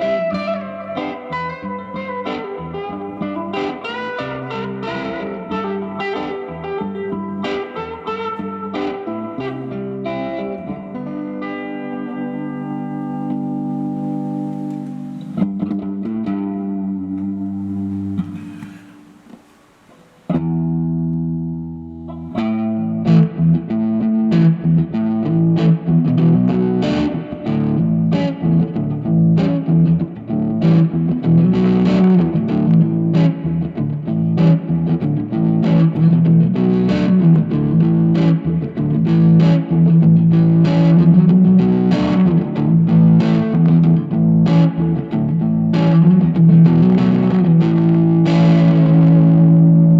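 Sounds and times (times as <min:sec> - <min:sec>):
electric guitar chords: 0:00.0 - 0:49.9.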